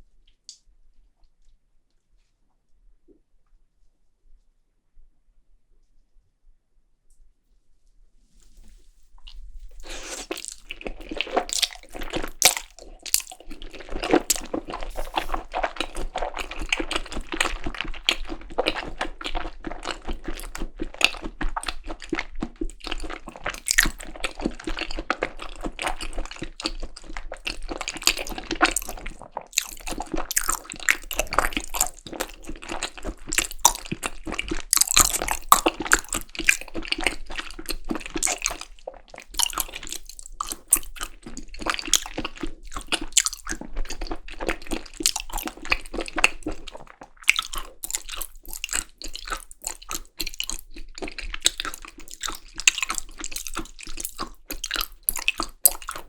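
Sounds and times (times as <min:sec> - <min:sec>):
close-miked wet chewing: 0:09.2 - 0:56.0.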